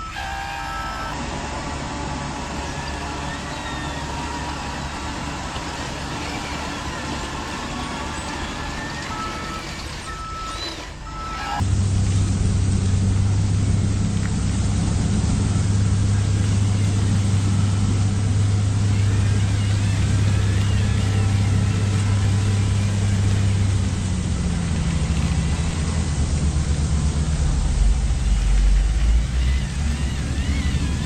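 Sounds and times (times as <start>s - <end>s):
vehicle engine droning: 0.0s - 31.0s.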